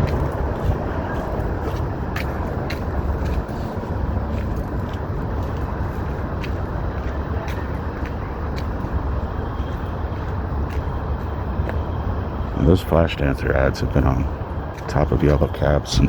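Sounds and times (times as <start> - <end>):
city street traffic rumble: 0.0 - 16.0.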